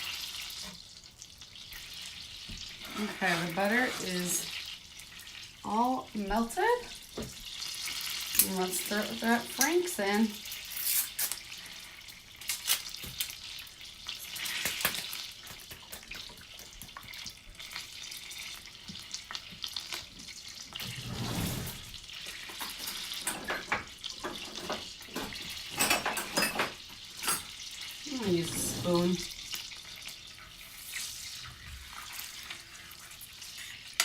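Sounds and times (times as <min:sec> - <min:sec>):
sauce sizzling in a hot pan: 0:00.0 - 0:15.6, 0:16.2 - 0:20.8, 0:21.8 - 0:25.7, 0:26.7 - 0:34.0.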